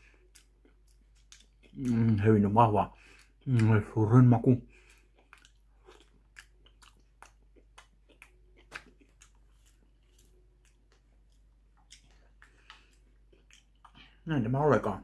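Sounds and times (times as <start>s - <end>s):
mouth chewing food: 0.0s - 15.0s.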